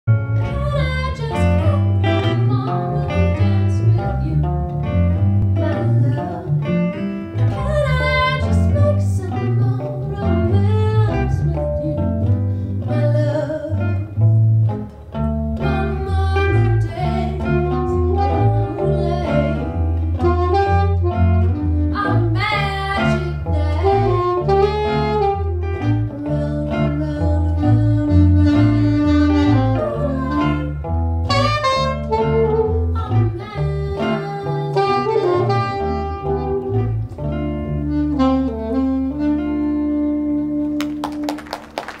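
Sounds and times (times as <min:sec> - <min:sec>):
electric bass line: 0:00.0 - 0:41.3
electric guitar chords: 0:00.1 - 0:42.0
saxophone lead: 0:00.1 - 0:42.0.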